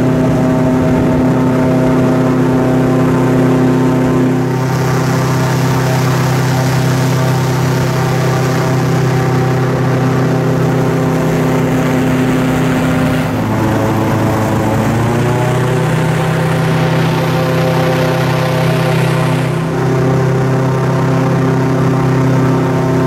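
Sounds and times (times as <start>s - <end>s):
airboat engine and propeller drone: 0.0s - 23.0s.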